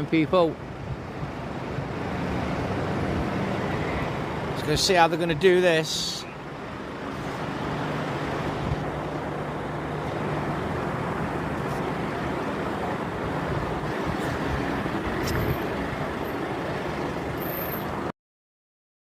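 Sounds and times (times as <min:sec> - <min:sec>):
steady engine noise: 0:00.0 - 0:18.1.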